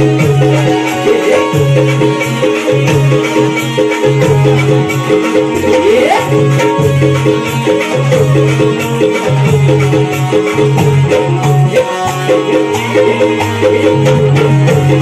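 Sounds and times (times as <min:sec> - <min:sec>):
bass line: 0:00.0 - 0:15.0
electronic keyboard melody: 0:00.0 - 0:15.0
shaker-like percussion: 0:00.0 - 0:15.0.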